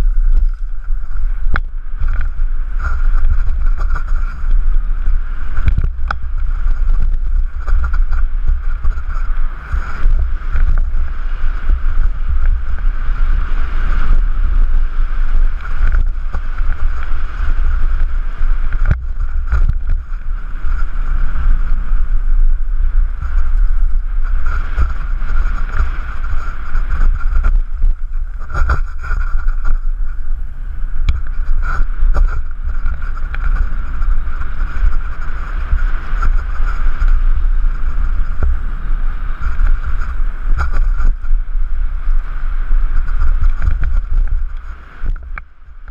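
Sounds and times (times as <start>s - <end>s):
bike knocking and rattling: 0.0s - 45.9s
wind buffeting microphone: 0.0s - 45.9s.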